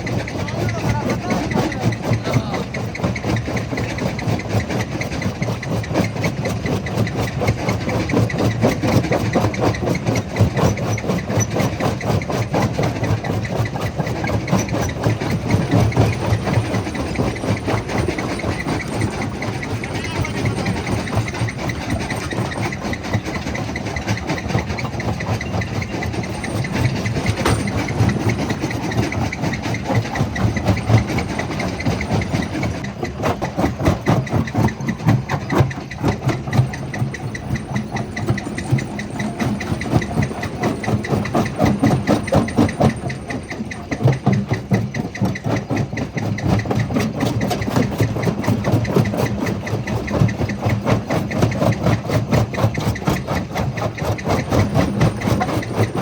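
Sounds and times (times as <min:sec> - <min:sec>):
heavy machine rumble: 0:00.0 - 0:56.0.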